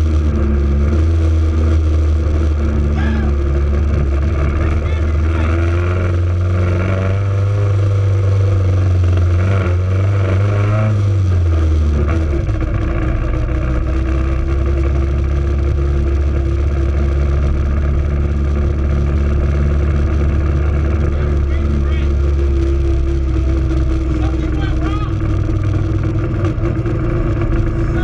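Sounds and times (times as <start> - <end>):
car engine droning at low revs: 0.0 - 28.0.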